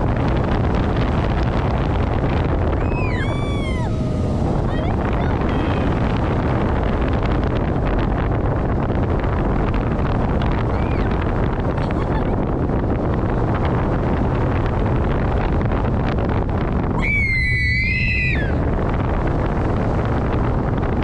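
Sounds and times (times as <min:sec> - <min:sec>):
roller coaster rumbling on track: 0:00.0 - 0:21.0
wind on microphone: 0:00.0 - 0:21.0.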